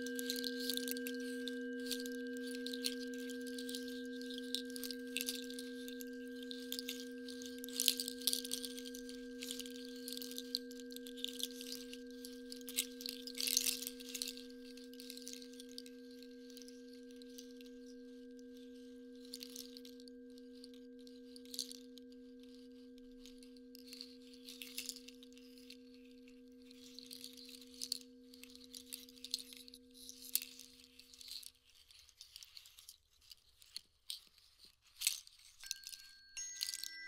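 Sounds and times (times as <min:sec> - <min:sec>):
low ringing tone: 0:00.0 - 0:30.2, 0:35.6 - 0:37.0.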